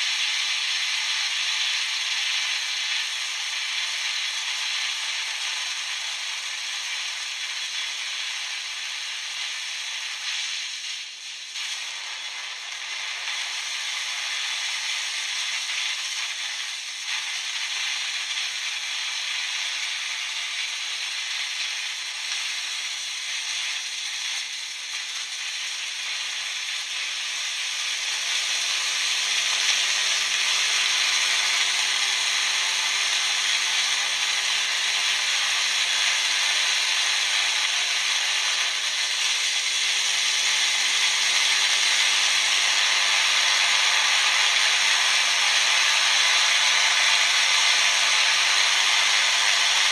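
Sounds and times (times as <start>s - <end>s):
electric arc hissing and crackling: 0.0s - 49.9s.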